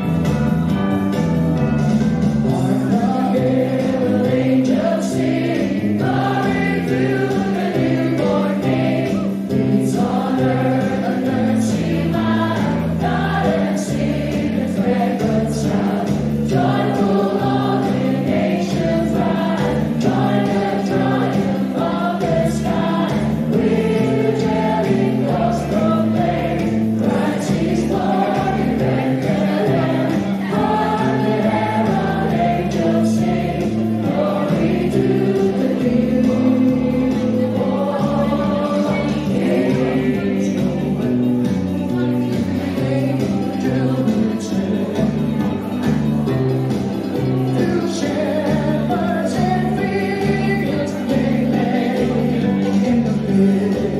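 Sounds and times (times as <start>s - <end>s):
choir singing a carol: 2.7s - 41.2s, 47.5s - 53.9s.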